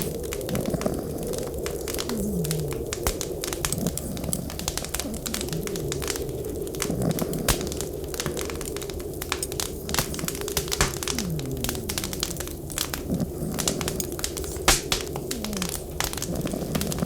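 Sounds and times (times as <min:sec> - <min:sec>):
blizzard wind rumble: 0:00.0 - 0:17.0
wood fire crackling: 0:00.0 - 0:17.0.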